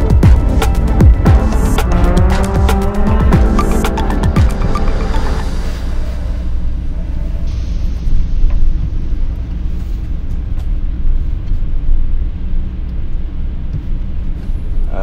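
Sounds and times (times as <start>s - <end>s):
van engine and road noise: 0.0s - 15.0s.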